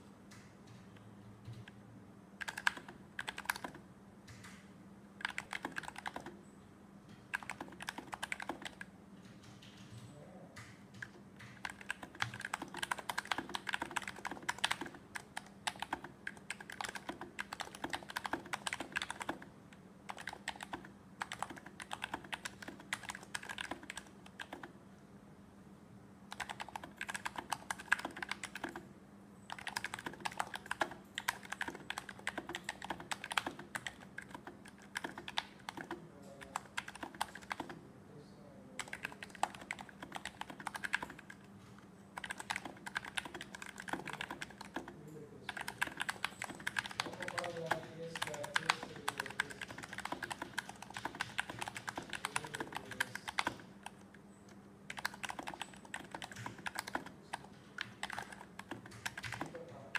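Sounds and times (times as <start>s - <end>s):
keyboard typing: 2.4s - 24.8s, 26.3s - 28.9s, 29.5s - 37.8s, 38.8s - 59.9s.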